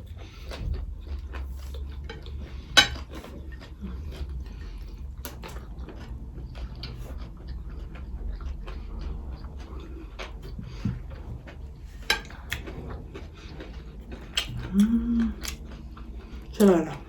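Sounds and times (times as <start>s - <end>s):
chewing with wet mouth sounds: 0.0s - 17.0s.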